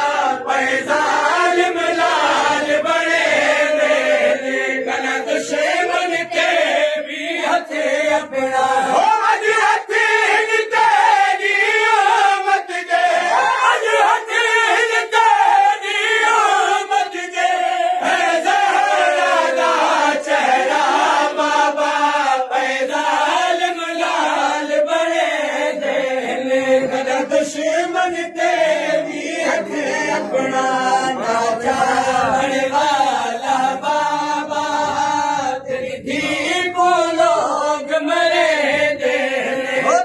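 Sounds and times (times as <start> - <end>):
men chanting a lament in unison: 0.0 - 40.0.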